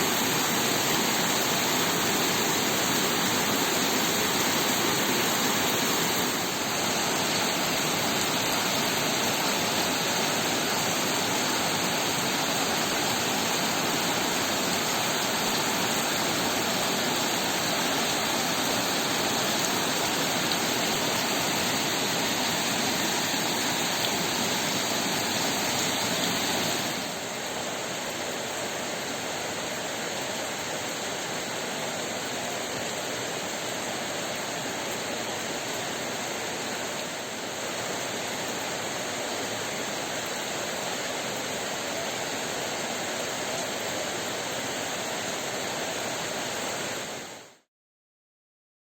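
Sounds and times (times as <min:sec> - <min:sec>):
heavy rain pouring: 0:00.0 - 0:47.6.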